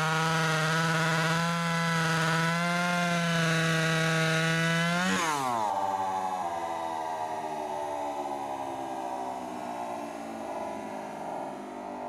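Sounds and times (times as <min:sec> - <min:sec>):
chainsaw cutting log: 0:00.0 - 0:12.0.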